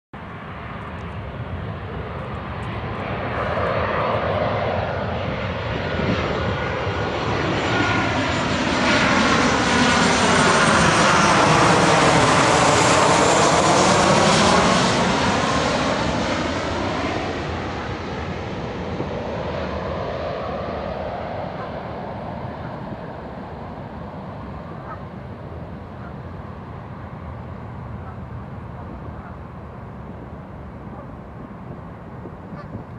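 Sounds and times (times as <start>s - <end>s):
jet plane flying past: 0.2s - 32.9s.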